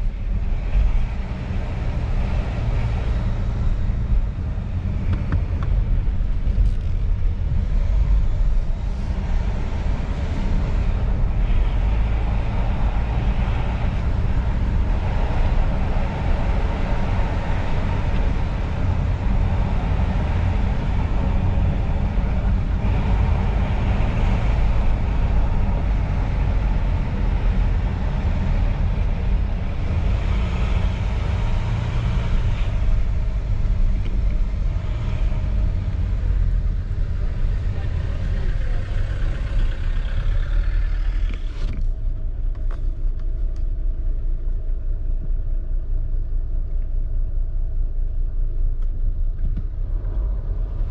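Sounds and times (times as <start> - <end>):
diesel engine drone: 0.0 - 50.9
tyre and road rumble: 0.0 - 50.9.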